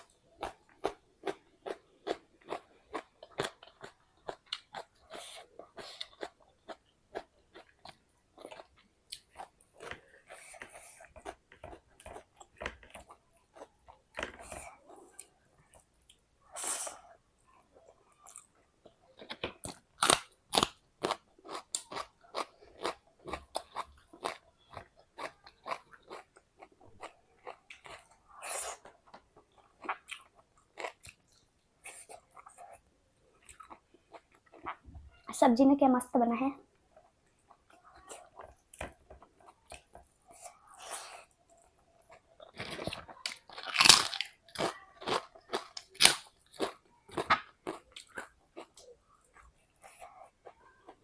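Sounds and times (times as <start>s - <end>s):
chewing crisp food: 0.0s - 34.8s, 36.9s - 51.0s.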